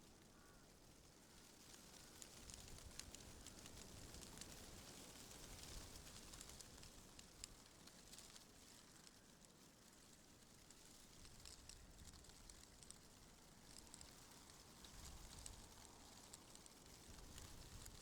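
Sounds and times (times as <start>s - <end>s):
wind rustling tree leaves: 0.1s - 18.0s.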